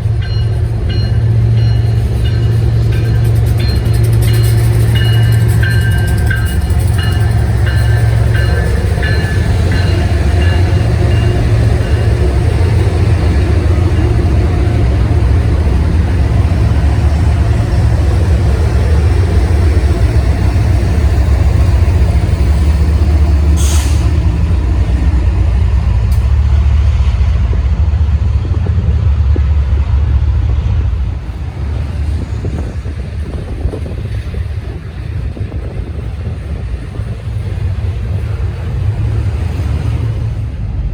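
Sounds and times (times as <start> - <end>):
diesel train rumbling past: 0.0 - 40.9.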